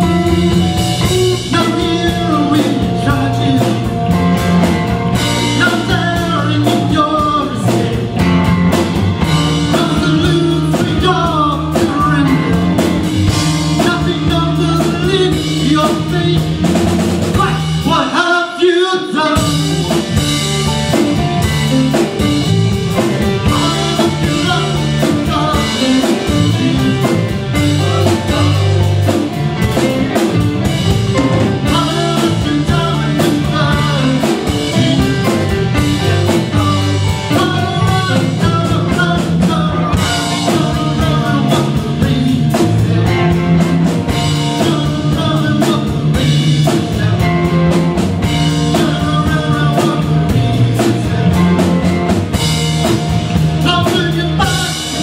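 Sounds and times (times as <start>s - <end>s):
drum kit: 0.0s - 55.0s
electric bass: 0.0s - 55.0s
electric guitars: 0.0s - 55.0s.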